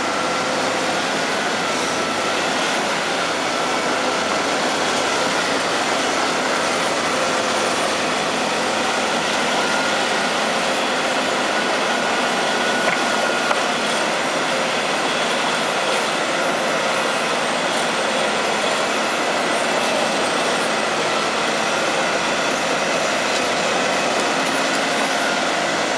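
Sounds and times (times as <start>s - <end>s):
diesel engines running: 0.0s - 25.9s.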